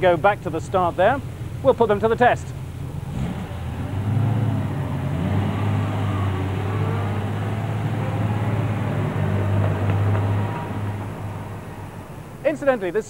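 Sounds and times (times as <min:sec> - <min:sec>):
sports car engines idling: 0:00.0 - 0:13.0.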